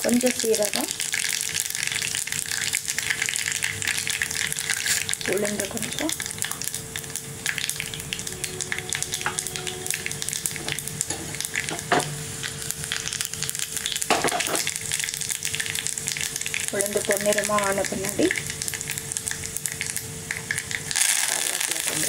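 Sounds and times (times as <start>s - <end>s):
seeds sizzling and popping in oil: 0.0s - 22.0s.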